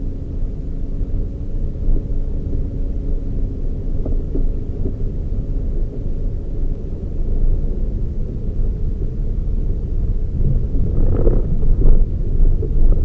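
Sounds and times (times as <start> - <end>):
car engine and road rumble: 0.0 - 13.0
faint steady hum: 0.0 - 13.0.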